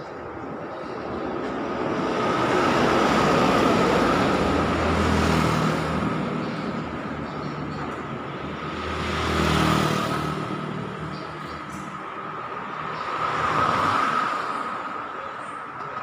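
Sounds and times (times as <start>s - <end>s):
vehicles passing on street: 0.0s - 16.0s.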